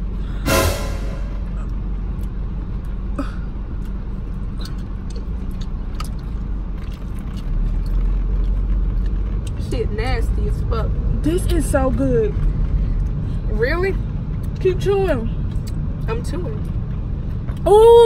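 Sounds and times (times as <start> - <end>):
car engine running: 0.0 - 17.8.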